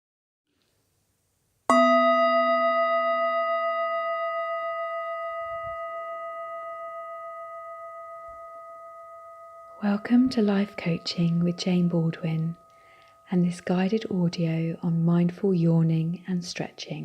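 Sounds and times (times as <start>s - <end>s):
singing bowl ringing: 1.7s - 15.4s.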